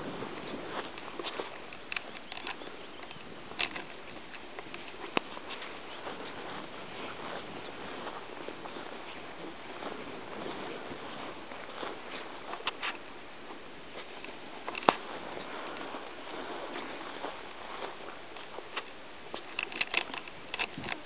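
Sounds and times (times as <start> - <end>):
footsteps through tall grass: 0.0 - 21.0.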